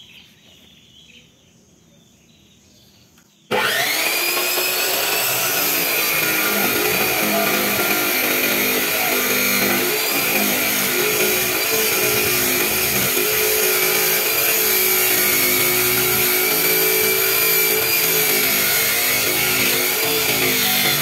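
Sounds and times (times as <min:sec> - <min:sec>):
cut-off saw grinding steel pipe: 0:03.5 - 0:21.0.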